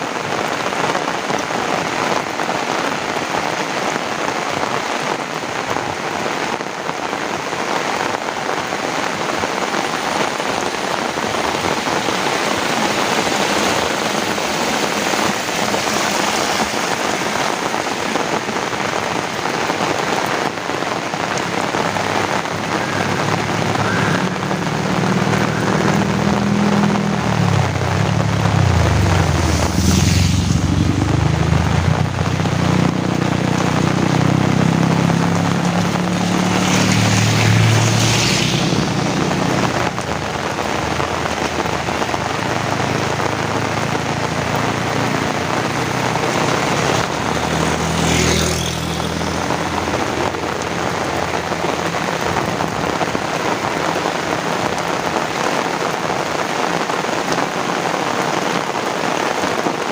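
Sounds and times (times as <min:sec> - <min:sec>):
heavy rain pouring: 0:00.0 - 0:59.9
vehicle engine rumble: 0:07.0 - 0:59.8.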